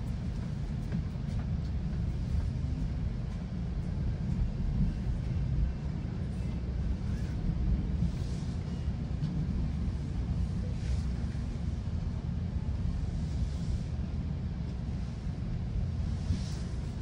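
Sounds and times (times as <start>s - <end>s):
train coach rumble: 0.0s - 17.0s.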